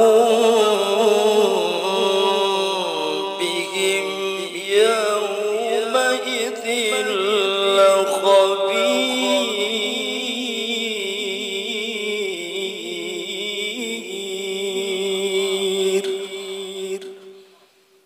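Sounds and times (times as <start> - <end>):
man reciting melodically: 0.0 - 17.3.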